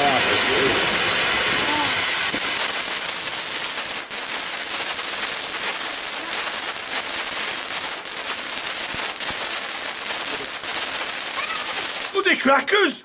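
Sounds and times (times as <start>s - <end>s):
firework hissing and crackling: 0.0s - 12.6s.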